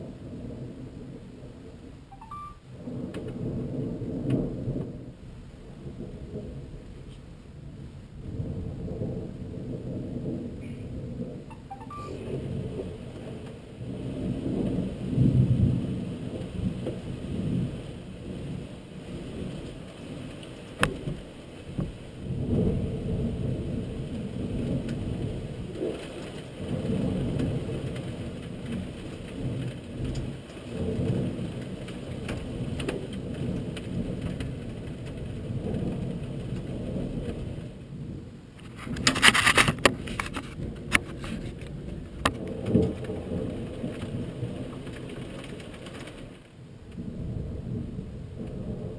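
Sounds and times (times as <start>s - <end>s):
thunder rumbling: 0.0s - 48.9s.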